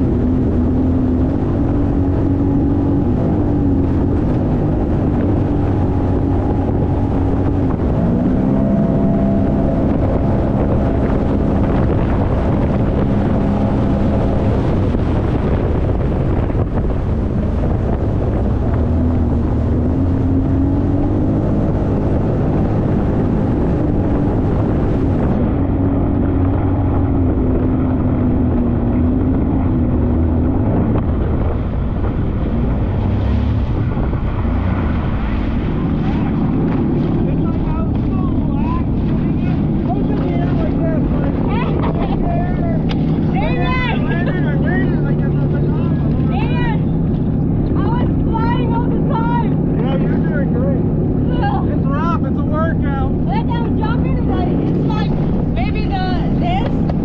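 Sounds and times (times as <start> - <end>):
jet ski engine: 0.0 - 57.0
wind buffeting microphone: 0.0 - 57.0.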